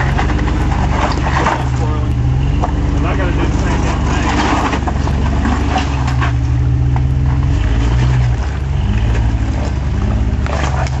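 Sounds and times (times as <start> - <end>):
engine revving under load: 0.0 - 11.0.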